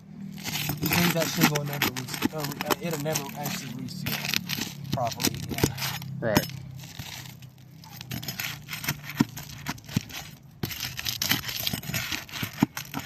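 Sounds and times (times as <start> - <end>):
roof shingles crackling and scraping: 0.2 - 6.0, 6.8 - 13.0.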